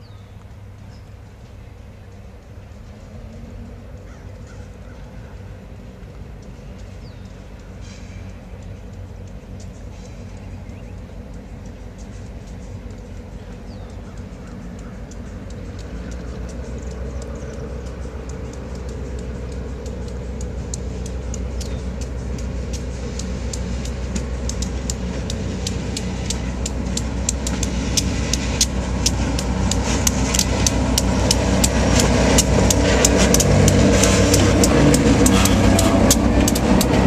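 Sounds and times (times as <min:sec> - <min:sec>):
locomotive engine hum: 0:00.0 - 0:37.0
wheels rushing on rail: 0:00.0 - 0:37.0
rapid sharp clicks: 0:06.3 - 0:37.0.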